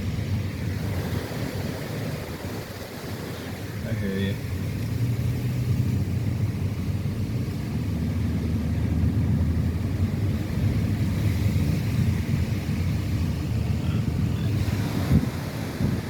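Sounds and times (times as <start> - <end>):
car driving on road: 0.0 - 16.0.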